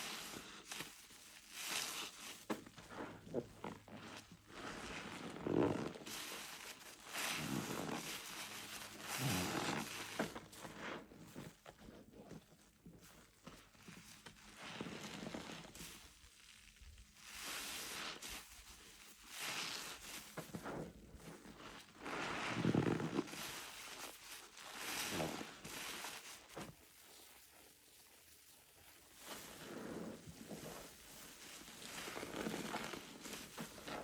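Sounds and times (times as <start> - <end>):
wet sponge squelching: 0.0 - 11.5, 13.1 - 20.8, 21.4 - 34.0.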